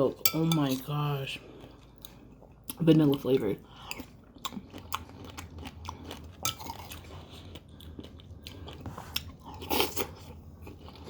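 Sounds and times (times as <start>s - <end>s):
close-up chewing crunches: 1.5s - 11.0s.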